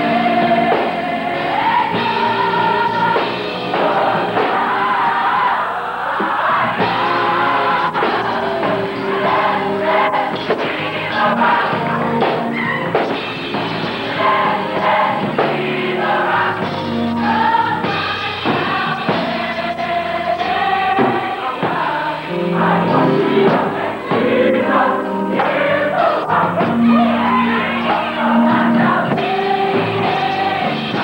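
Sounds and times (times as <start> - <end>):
gospel choir singing: 0.0 - 31.0.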